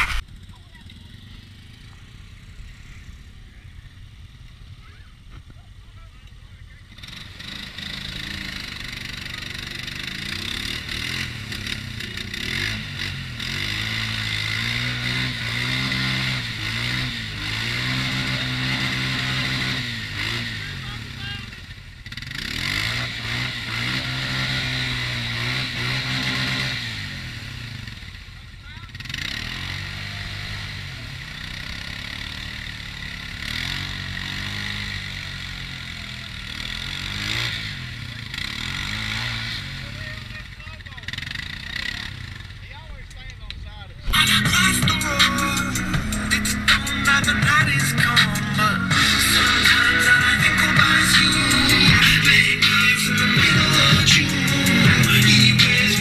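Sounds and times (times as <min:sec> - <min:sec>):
atv engine idling: 0:00.0 - 0:56.0
atv engine revving: 0:00.0 - 0:56.0.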